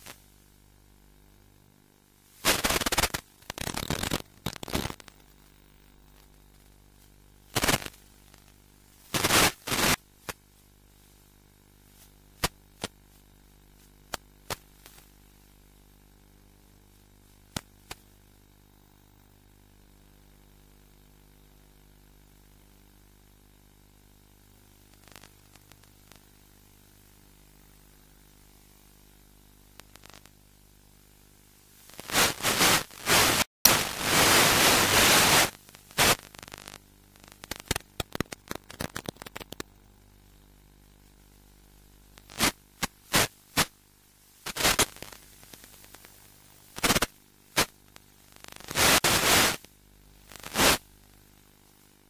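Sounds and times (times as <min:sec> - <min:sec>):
faint electrical hum: 0:00.0 - 0:52.0
radio static hiss: 0:00.0 - 0:52.0
static crackles: 0:00.0 - 0:52.0.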